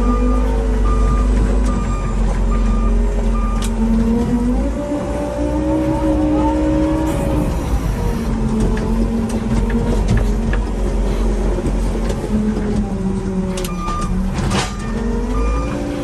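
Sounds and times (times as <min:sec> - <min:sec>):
farm vehicle engine under load: 0:00.0 - 0:16.0.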